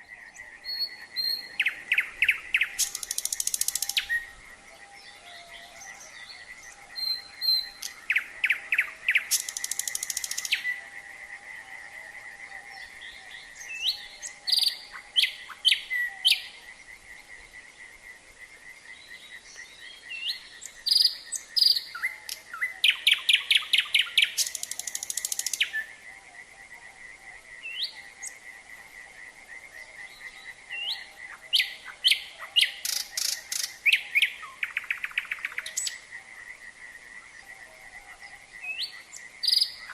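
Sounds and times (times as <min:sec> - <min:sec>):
nightingale singing: 0:00.0 - 0:18.0, 0:18.9 - 0:39.9
frogs trilling chorus: 0:00.0 - 0:39.9.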